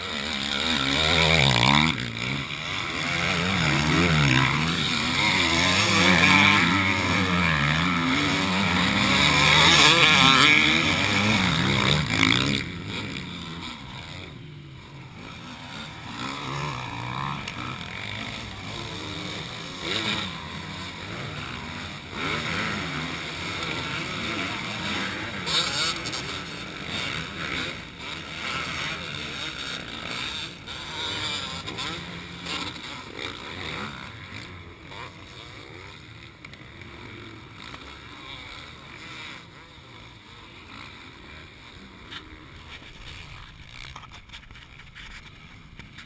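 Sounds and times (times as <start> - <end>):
motocross bike engines revving: 0.0 - 46.0.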